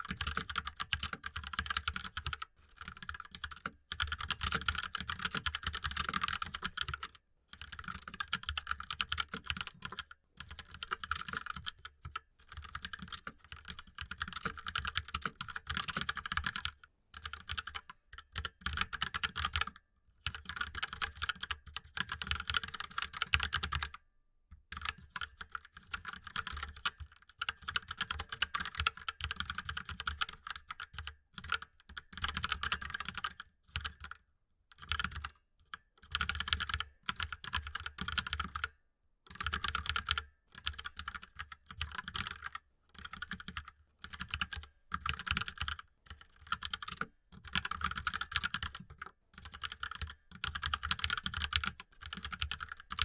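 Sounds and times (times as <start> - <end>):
fast typing on mechanical keyboard: 0.0 - 24.0, 24.8 - 34.2, 34.8 - 38.7, 39.3 - 53.0.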